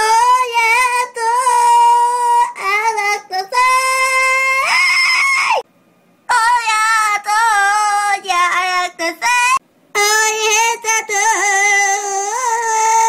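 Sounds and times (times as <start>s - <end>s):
child singing with vibrato: 0.0s - 5.6s, 6.3s - 13.0s.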